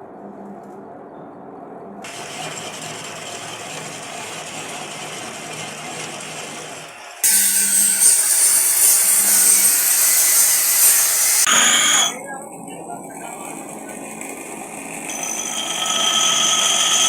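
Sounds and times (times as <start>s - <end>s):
workshop machinery humming: 2.0s - 17.0s
loud high whining machine: 2.1s - 17.0s.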